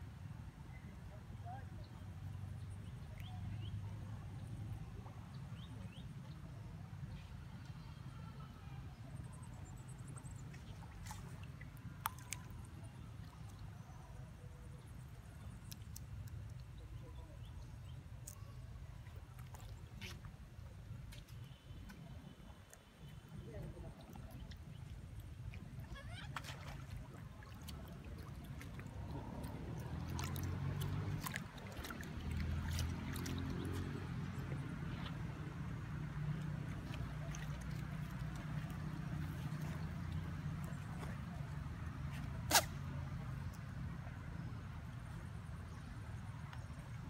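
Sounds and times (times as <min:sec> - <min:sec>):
faint water splashing: 0:00.6 - 0:47.0.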